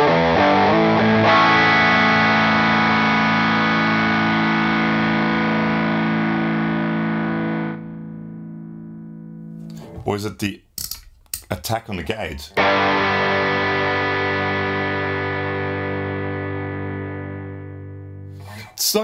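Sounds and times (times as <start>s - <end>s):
distorted electric guitar: 0.0s - 10.0s, 12.6s - 18.7s.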